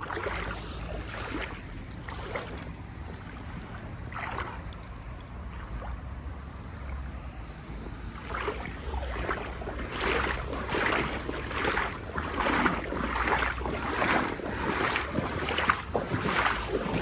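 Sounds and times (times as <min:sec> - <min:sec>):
wading through water splashing: 0:00.0 - 0:06.5, 0:07.9 - 0:17.0.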